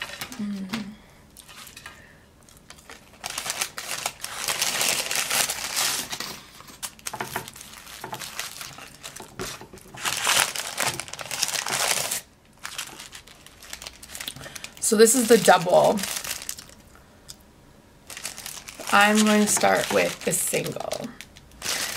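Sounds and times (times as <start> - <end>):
paper wrappers crinkling: 2.5 - 16.9, 18.0 - 21.9.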